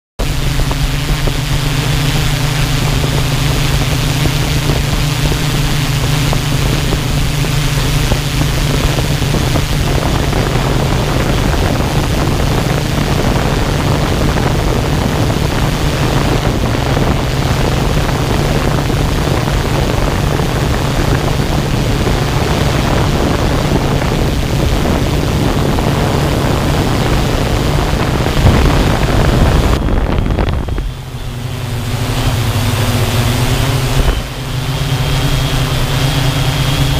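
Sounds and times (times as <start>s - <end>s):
drone propellers humming: 0.2s - 36.9s
wind noise: 0.2s - 36.9s.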